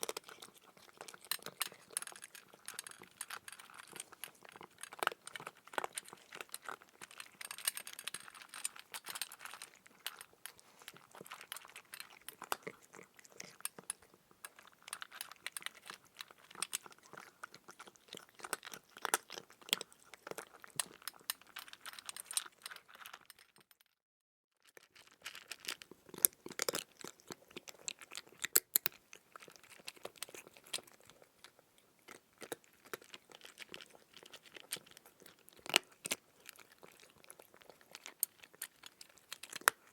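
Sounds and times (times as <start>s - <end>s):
crunching and chewing: 0.0s - 23.9s, 24.6s - 39.9s.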